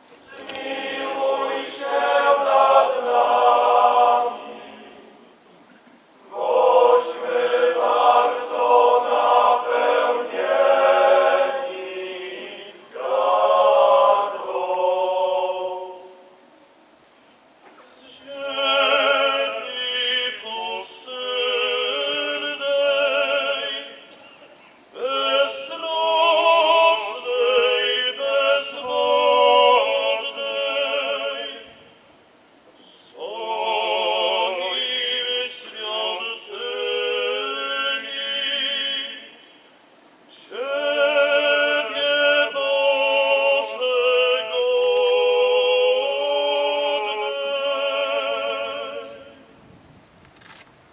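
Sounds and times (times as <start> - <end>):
men's choir singing: 0.2 - 5.4, 6.2 - 16.4, 18.0 - 31.8, 33.0 - 39.4, 40.3 - 49.4.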